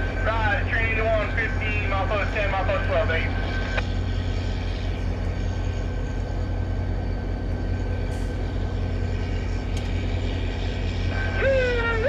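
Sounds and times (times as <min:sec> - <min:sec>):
diesel locomotive throbbing: 0:00.0 - 0:12.0
thin steady whine: 0:00.0 - 0:12.0.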